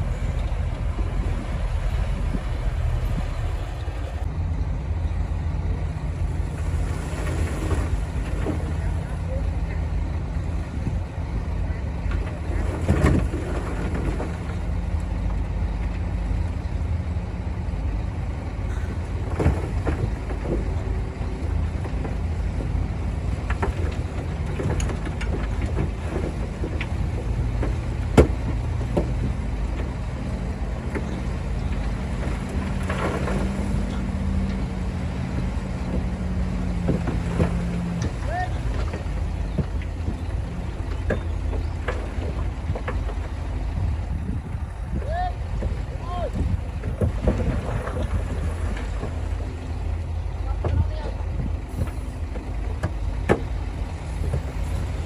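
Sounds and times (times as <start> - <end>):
bulldozer engine hum: 0.0 - 55.0.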